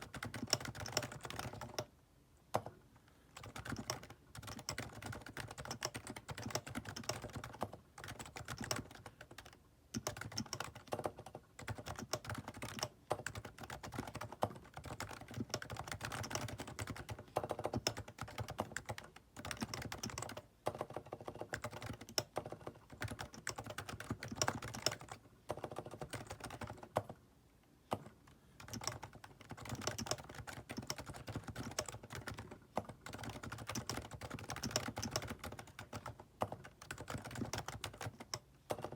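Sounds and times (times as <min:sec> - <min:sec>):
quiet keyboard keystrokes: 0:00.0 - 0:01.9, 0:02.5 - 0:38.9.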